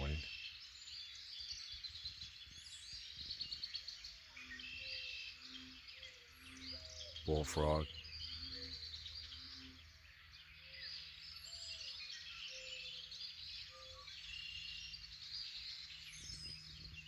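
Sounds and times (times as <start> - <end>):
songbirds singing and chirping: 0.0 - 17.0.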